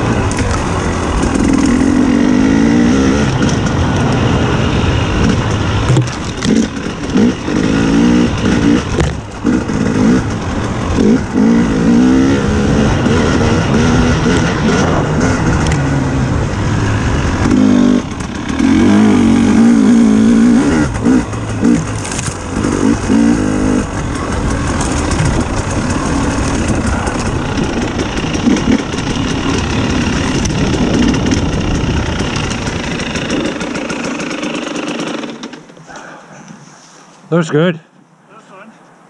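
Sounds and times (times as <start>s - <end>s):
dirt bike engine revving: 0.0s - 36.2s.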